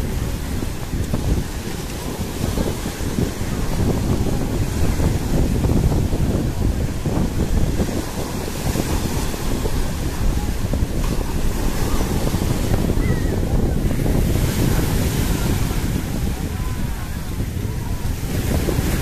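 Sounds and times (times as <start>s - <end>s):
surf waves crashing on shore: 0.0s - 19.0s
wind rumble on microphone: 0.0s - 19.0s.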